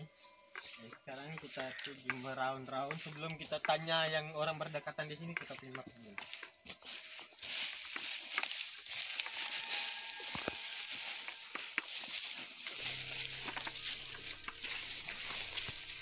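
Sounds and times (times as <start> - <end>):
footsteps rustling through grass: 0.0 - 16.0
steady high hiss: 0.0 - 16.0.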